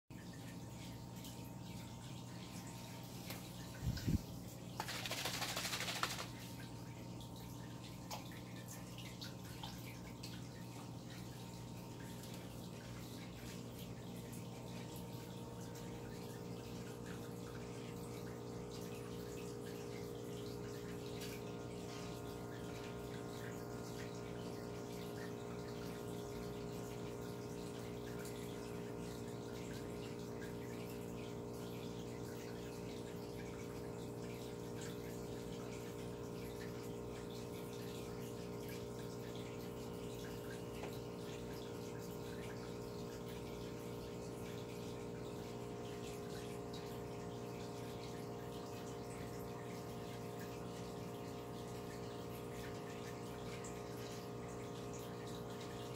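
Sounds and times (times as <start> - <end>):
water pumps humming: 0.1 - 55.9
water trickling through pipes: 0.1 - 55.9.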